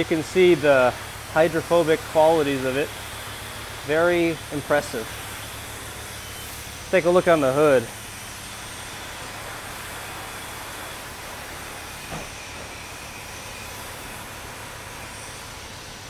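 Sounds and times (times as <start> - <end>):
pressure washer spraying water: 0.0 - 16.0.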